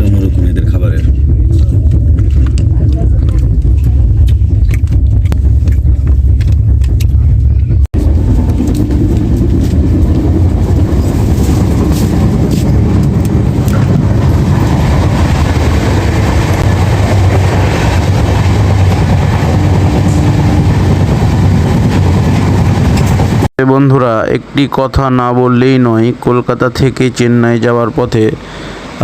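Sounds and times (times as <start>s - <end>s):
train rumbling on rails: 0.0s - 23.5s.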